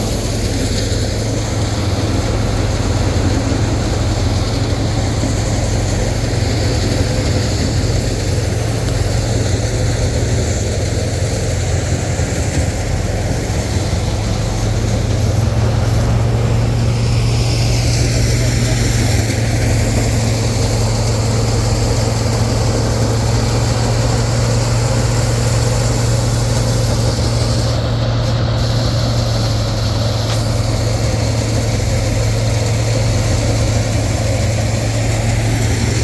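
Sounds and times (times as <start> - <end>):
combine harvester engine drone: 0.0 - 36.0.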